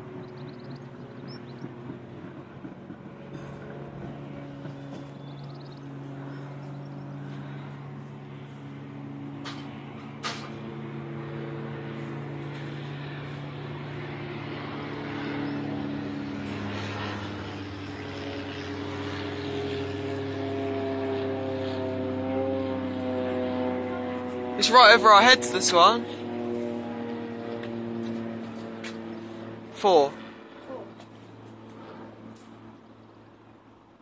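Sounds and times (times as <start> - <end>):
propeller plane engine humming: 0.0 - 34.0.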